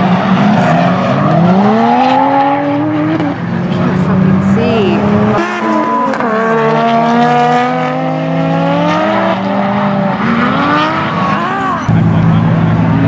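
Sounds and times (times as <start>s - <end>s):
car engines at high revs: 0.0s - 13.0s.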